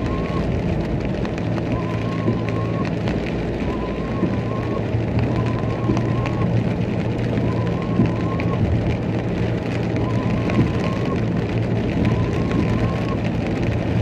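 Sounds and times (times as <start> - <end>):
car engine and tyre hum: 0.0 - 14.0
rain ticking on car: 0.0 - 14.0.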